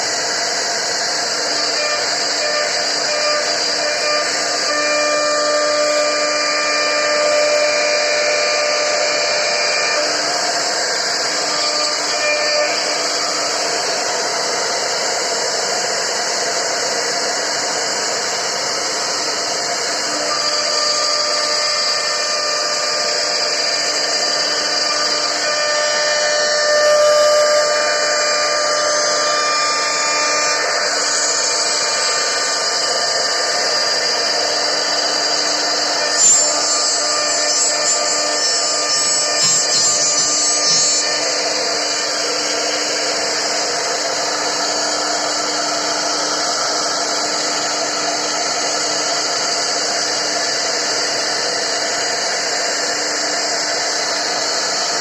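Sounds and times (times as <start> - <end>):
wood router cutting with whine: 0.0 - 55.0.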